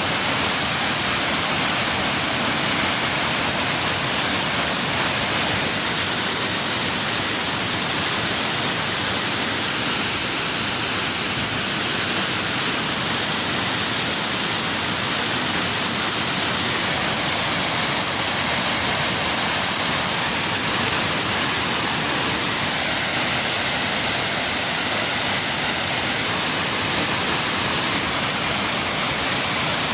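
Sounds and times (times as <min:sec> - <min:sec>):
rushing water: 0:00.0 - 0:29.9.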